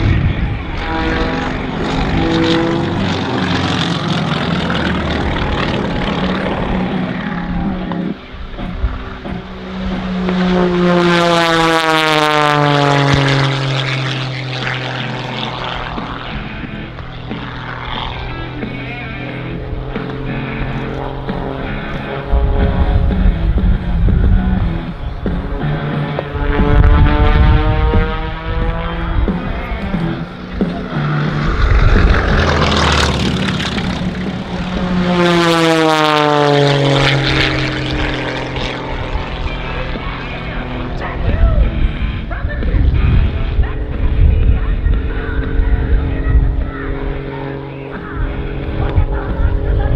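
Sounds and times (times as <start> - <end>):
propeller plane engine passing: 0.0 - 49.9.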